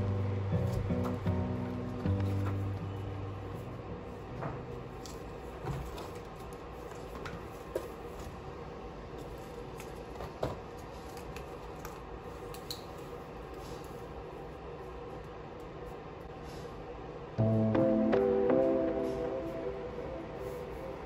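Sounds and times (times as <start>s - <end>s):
low room noise: 0.0s - 21.0s.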